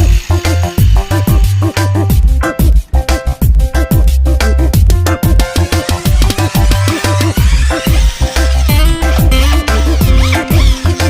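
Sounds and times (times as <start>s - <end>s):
electronic hip-hop music: 0.0s - 11.0s.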